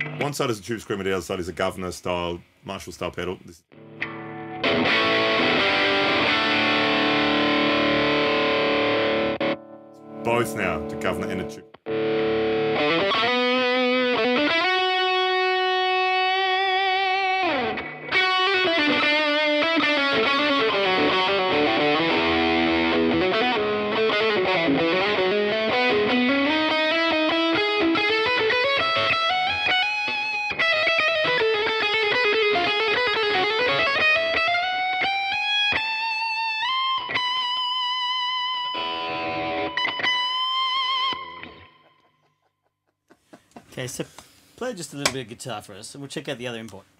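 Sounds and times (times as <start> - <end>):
overdriven electric guitar lead: 3.7 - 42.1
choppy guitar chords: 3.7 - 42.2.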